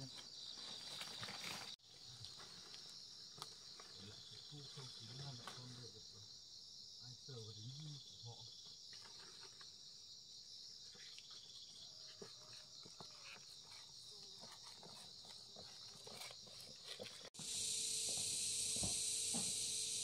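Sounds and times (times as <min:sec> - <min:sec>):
high-pitched insect chorus: 0:00.0 - 0:20.0
wide insect drone: 0:00.0 - 0:20.0.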